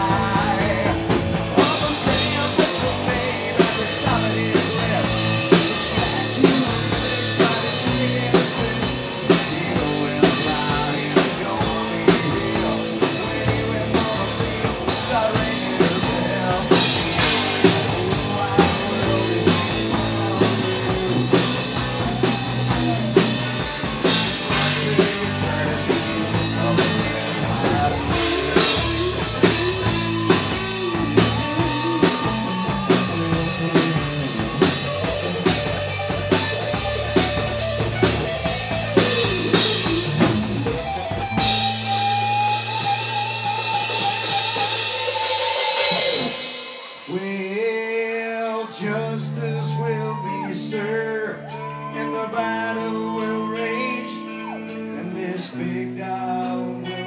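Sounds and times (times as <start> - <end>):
drum kit beat: 0.0 - 48.0
electric guitars: 0.0 - 57.0.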